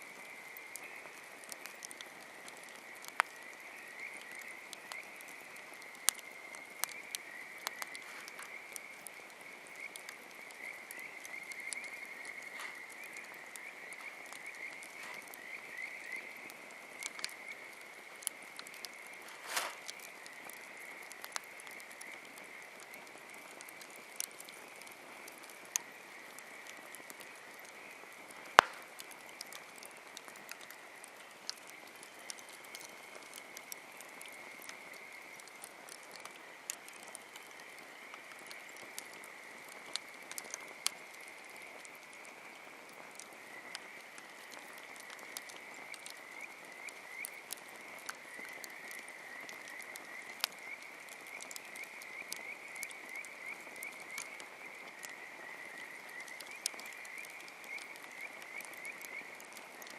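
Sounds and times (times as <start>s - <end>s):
campfire crackling and popping: 0.0s - 59.9s
frogs trilling chorus: 0.1s - 59.9s.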